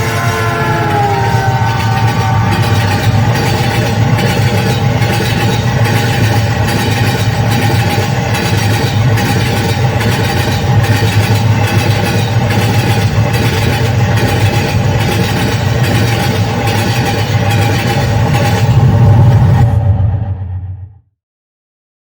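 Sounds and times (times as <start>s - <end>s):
wheels clacking over rail joints: 0.0s - 19.0s
train rumbling: 0.0s - 21.0s.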